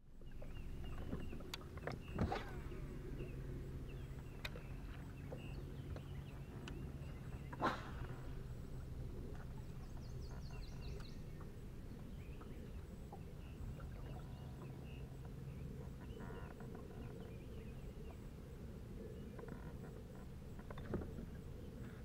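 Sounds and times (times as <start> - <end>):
low steady rumble: 0.0 - 22.0
birds chirping: 0.2 - 21.0.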